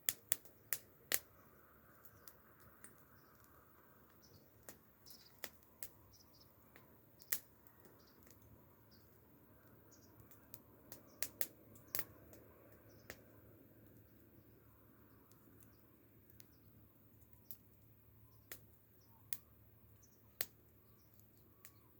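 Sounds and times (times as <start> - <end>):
wood fire crackling: 0.0 - 21.9.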